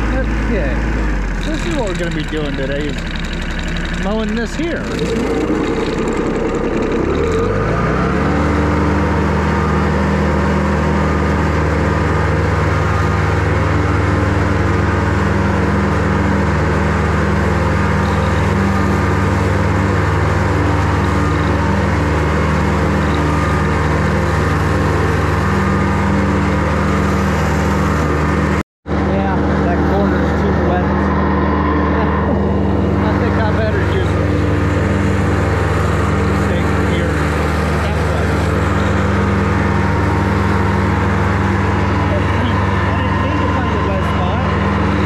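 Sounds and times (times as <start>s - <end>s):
riding lawn mower engine: 0.0s - 45.0s.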